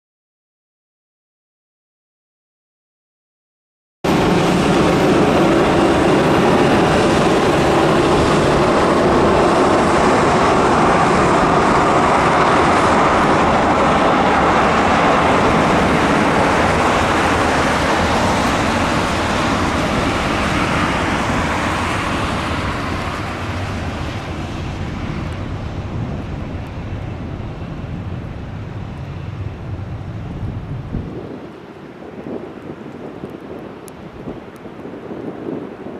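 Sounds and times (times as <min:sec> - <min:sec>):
jet engines running: 0:04.1 - 0:35.9.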